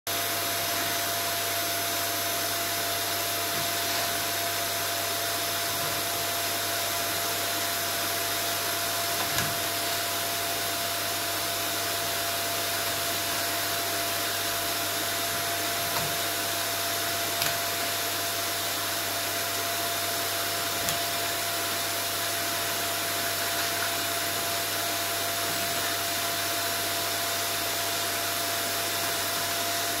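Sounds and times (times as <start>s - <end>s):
vacuum cleaner whining: 0.1s - 30.0s.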